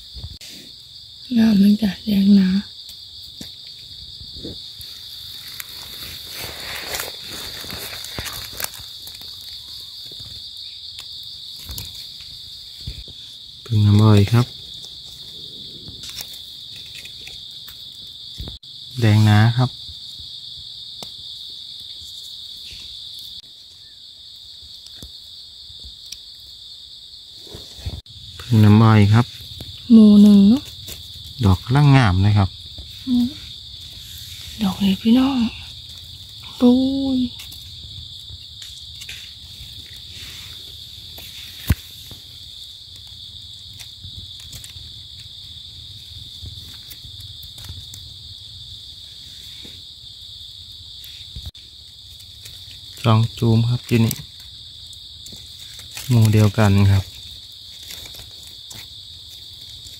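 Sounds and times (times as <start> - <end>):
rustles in undergrowth: 0.0 - 26.6, 27.2 - 59.9
insects droning: 0.0 - 59.9.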